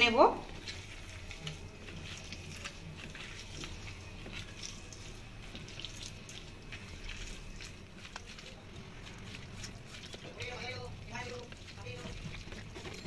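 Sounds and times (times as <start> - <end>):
wet squelches of hand mixing: 0.0 - 13.0.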